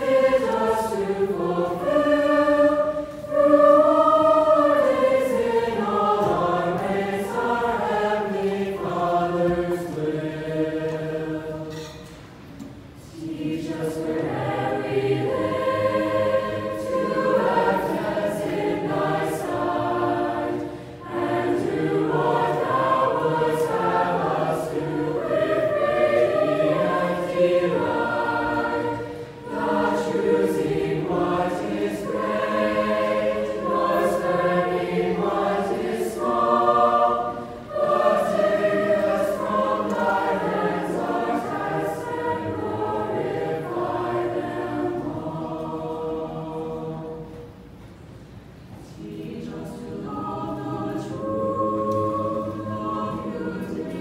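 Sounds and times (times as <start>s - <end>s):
mixed choir singing unaccompanied: 0.0s - 47.9s, 48.7s - 54.0s.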